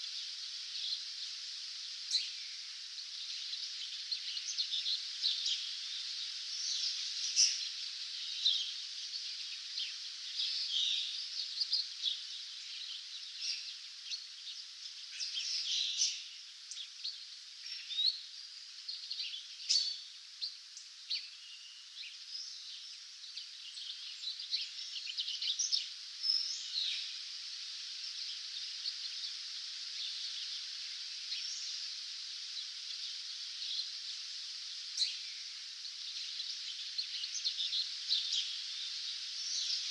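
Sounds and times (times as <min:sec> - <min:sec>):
songbirds chirping and trilling: 0:00.0 - 0:39.9
steady high hiss: 0:00.0 - 0:39.9.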